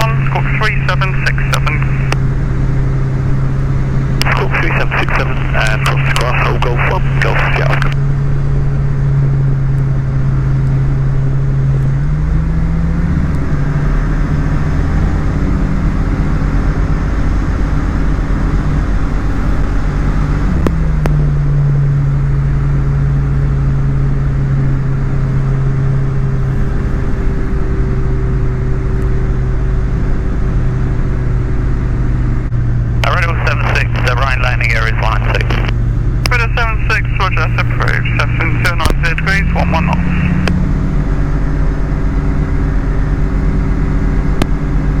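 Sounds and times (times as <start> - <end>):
piston aircraft engine running: 0.0 - 45.0.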